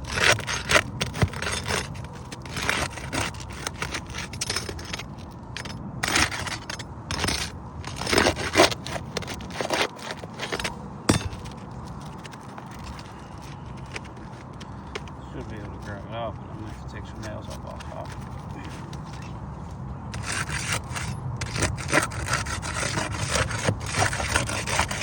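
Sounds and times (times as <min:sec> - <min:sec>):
roof shingles scraping and crackling: 0:00.0 - 0:25.0.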